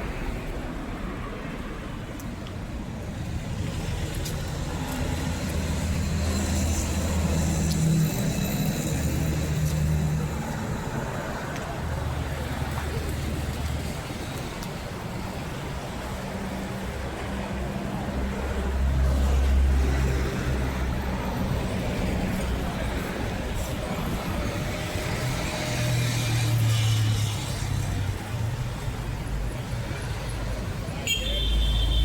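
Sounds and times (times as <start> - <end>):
road noise: 0.0 - 32.0.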